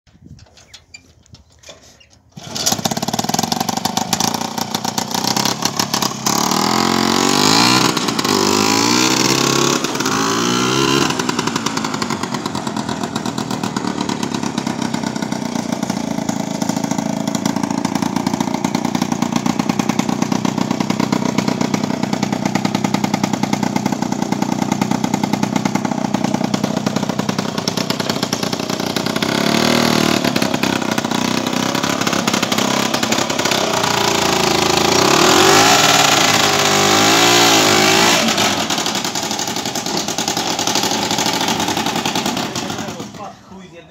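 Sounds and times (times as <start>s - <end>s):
two-stroke motorcycle engine revving: 2.3s - 43.5s.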